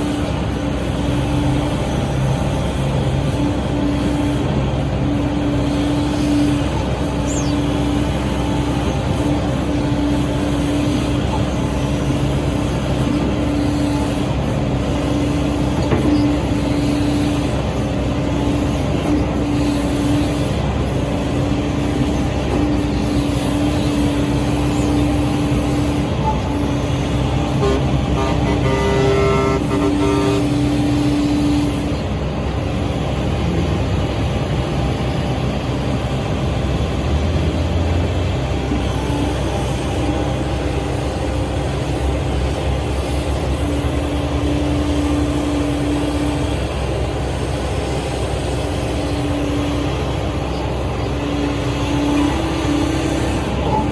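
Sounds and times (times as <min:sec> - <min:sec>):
excavator diesel engine and hydraulics: 0:00.0 - 0:53.9
hydraulic whine: 0:00.0 - 0:53.9.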